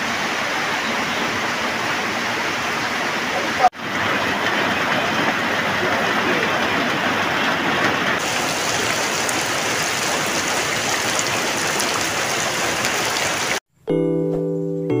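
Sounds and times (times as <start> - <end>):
rain dripping off roof edge: 0.0 - 13.6
rain falling on shallow water: 0.0 - 13.6.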